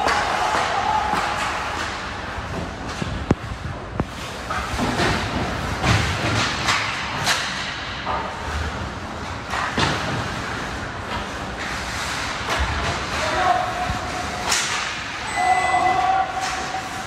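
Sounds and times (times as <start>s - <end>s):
steady noisy background: 0.0s - 17.0s.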